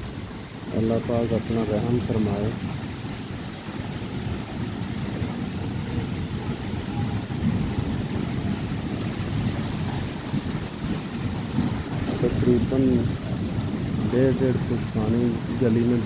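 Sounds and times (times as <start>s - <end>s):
heavy rain on flooded street: 0.0s - 16.0s
wind rumble on microphone: 0.0s - 16.0s.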